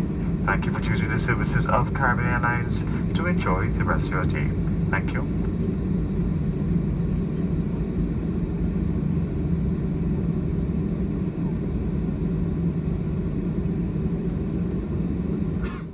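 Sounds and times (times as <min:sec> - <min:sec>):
airliner cabin rumble: 0:00.0 - 0:15.9.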